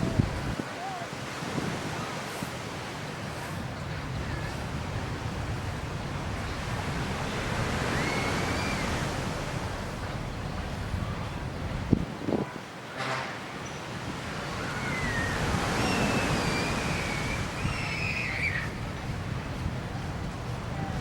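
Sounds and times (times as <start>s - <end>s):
wind rumbling on microphone: 0.0s - 12.7s, 14.0s - 21.0s
sea surf washing ashore: 0.0s - 21.0s.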